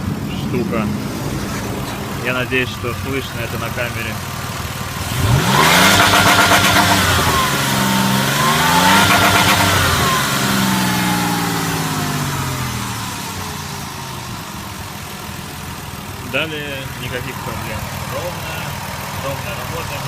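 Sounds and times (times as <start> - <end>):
car engine revving and stuttering: 0.0 - 20.0.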